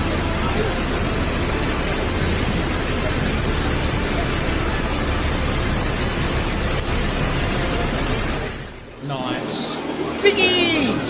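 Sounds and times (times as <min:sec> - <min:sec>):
loud rushing noise: 0:00.0 - 0:11.0.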